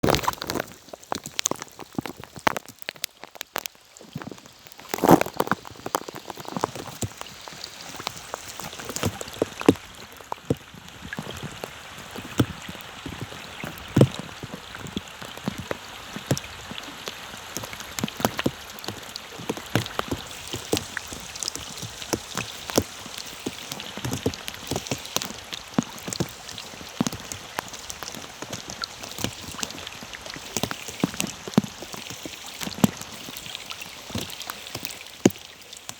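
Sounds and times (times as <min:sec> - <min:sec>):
rain falling on water: 0:00.0 - 0:35.9
water splashes: 0:00.0 - 0:35.9.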